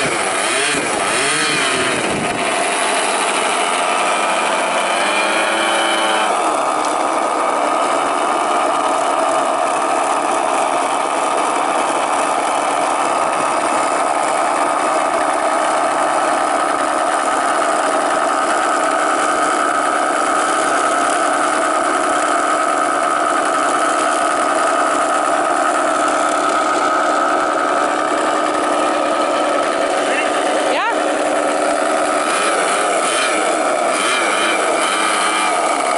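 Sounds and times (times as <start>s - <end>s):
model plane engines running: 0.0s - 35.9s.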